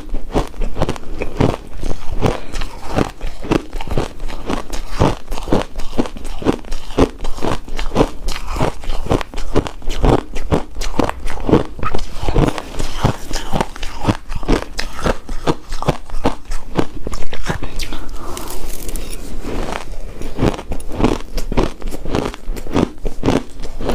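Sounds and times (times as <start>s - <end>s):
crunching ice in the mouth: 0.0s - 23.9s.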